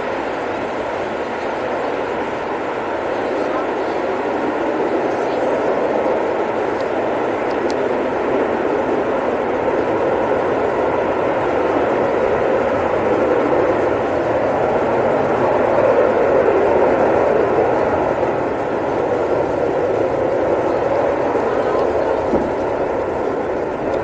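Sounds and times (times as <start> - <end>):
jet engines flying low: 0.0 - 24.0.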